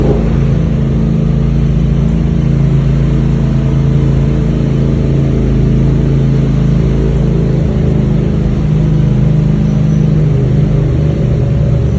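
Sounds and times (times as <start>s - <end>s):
utv engine running: 0.0s - 11.9s.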